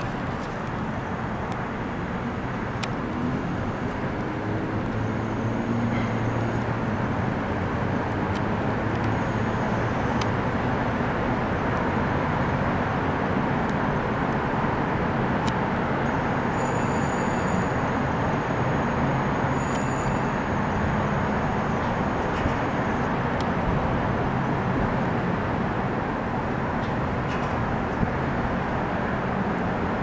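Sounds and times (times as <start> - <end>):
city background rumble: 0.0 - 30.0.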